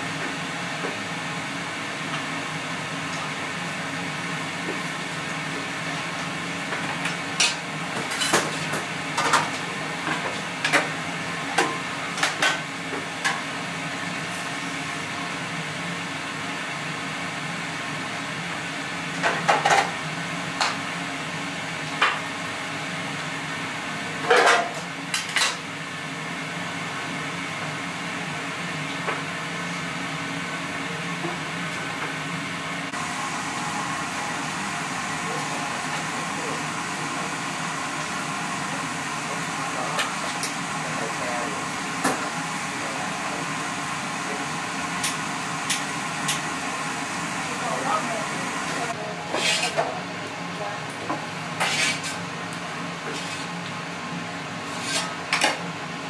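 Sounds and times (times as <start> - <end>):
steady kitchen hum: 0.0 - 56.0.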